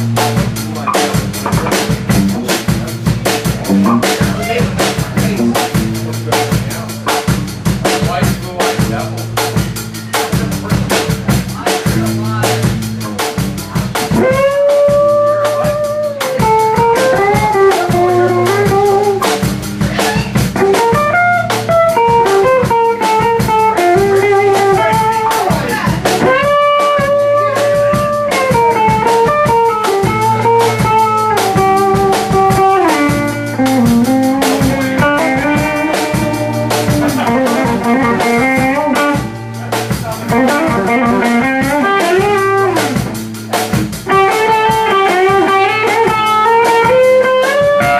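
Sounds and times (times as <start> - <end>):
drum kit steady beat: 0.0 - 47.9
electric bass: 0.0 - 47.9
electric guitar lead with bends: 0.0 - 47.9.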